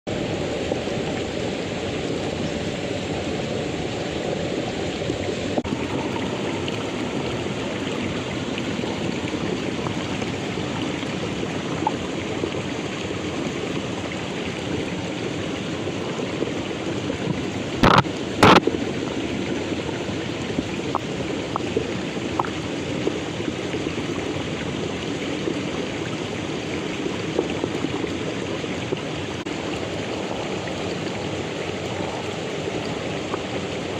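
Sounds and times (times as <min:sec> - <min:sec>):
stream water rushing: 0:00.1 - 0:33.9.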